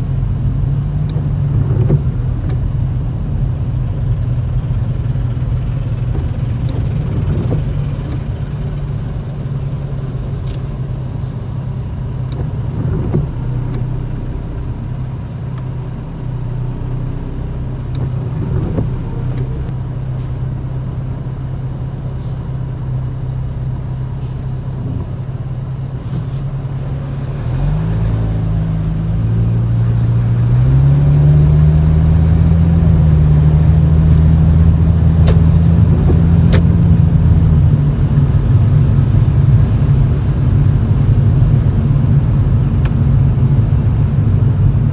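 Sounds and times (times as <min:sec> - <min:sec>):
car engine droning from inside cabin: 0:00.0 - 0:44.9.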